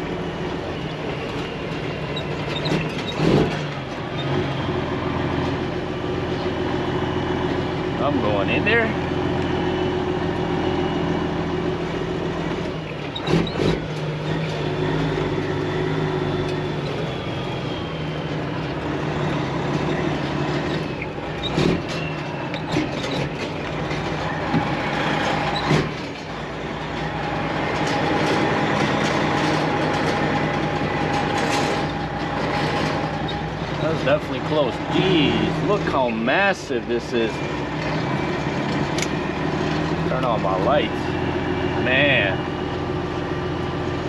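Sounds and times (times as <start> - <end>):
diesel truck engine rumbling: 0.0 - 44.0.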